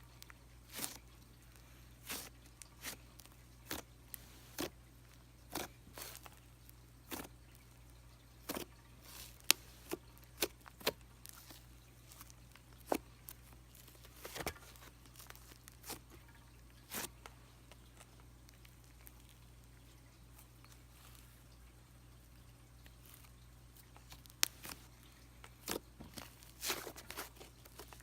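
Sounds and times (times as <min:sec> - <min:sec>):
hands squishing slime: 0:00.0 - 0:21.6, 0:22.8 - 0:28.0.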